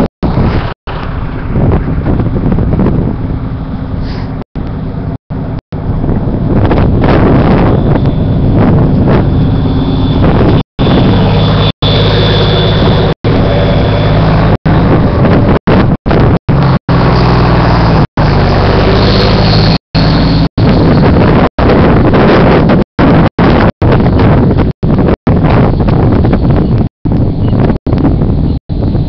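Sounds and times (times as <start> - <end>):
engine idling drone: 0.2 - 25.1.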